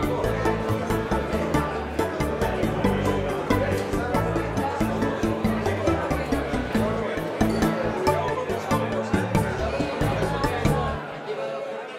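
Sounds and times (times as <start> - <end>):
music with steady beat: 0.0 - 11.0
stepping bass line: 0.0 - 11.0.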